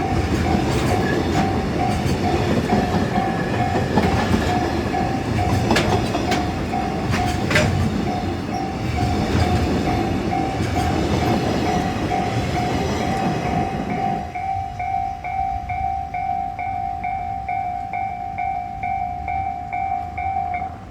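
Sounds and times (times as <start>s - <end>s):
level crossing alarm dinging: 0.0s - 20.9s
train rumble: 0.0s - 20.9s
train wheels clacking: 0.0s - 20.9s.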